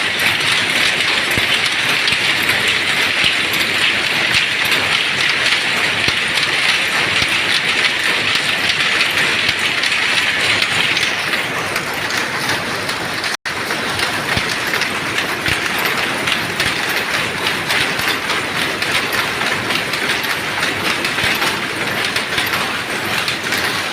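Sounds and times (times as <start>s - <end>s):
power loom clattering: 0.0s - 23.9s.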